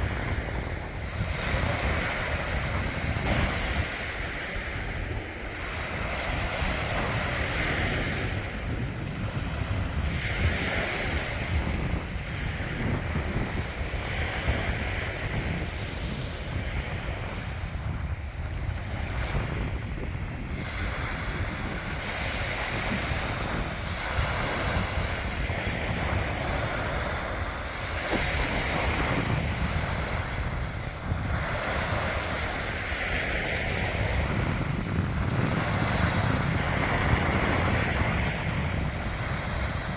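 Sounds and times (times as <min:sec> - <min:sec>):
sea surf washing onto beach: 0:00.0 - 0:39.9
wind rumbling on microphone: 0:00.0 - 0:39.9.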